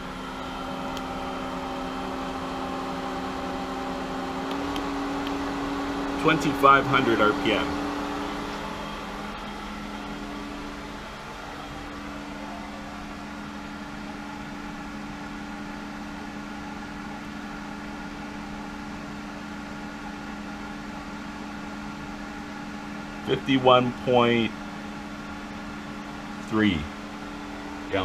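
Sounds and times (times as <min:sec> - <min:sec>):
pool pump motor hum: 0:00.0 - 0:28.0.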